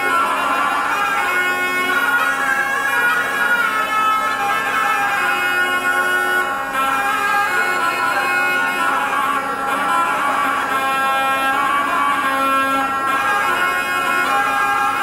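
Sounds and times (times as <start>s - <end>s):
nasal reed melody: 0.0s - 15.0s.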